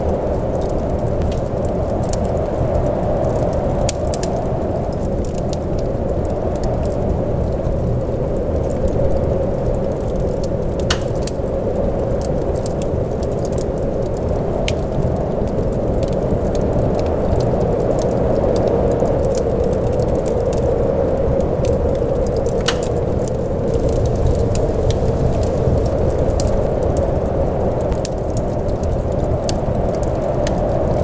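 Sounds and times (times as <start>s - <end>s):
steady rain rush: 0.0s - 31.0s
sharp ticks and crackles: 0.1s - 20.8s, 21.4s - 31.0s.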